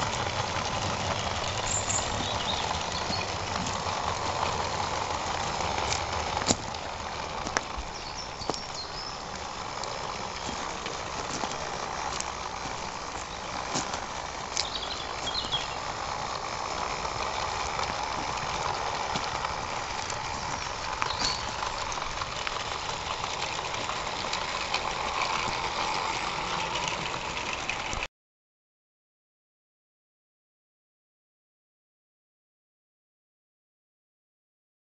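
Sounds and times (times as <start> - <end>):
model train running: 0.0 - 28.1
wheels clicking on track: 0.0 - 28.1.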